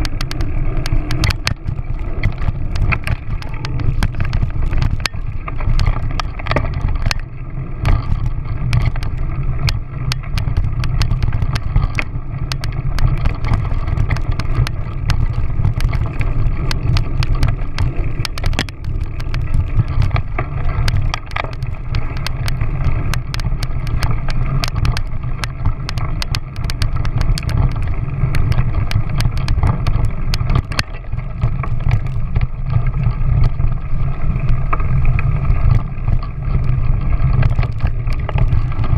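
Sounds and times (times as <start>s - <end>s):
clicks and rattles: 0.0s - 38.9s
low rumble: 0.0s - 38.9s
wind buffeting microphone: 0.0s - 38.9s.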